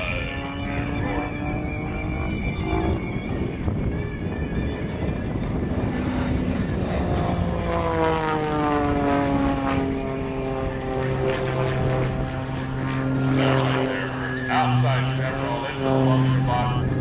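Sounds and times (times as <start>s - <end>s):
biplane engine and propeller drone: 0.0s - 17.0s.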